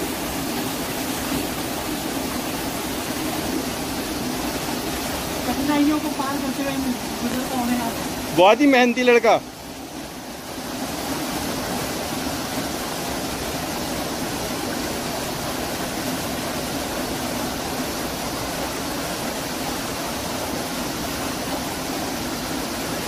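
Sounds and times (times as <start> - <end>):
mountain stream rushing over boulders: 0.0 - 23.0.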